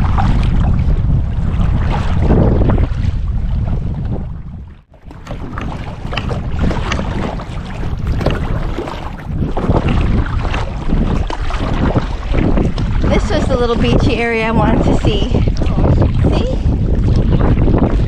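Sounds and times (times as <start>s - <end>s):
paddle splashes: 0.0s - 18.0s
water lapping: 0.0s - 18.0s
wind buffeting microphone: 0.0s - 18.0s.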